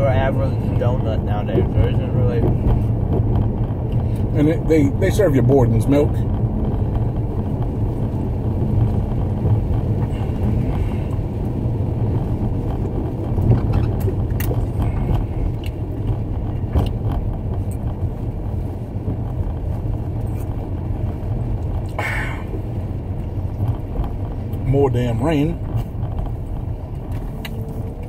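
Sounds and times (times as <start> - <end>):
car cabin rumble: 0.0 - 28.0.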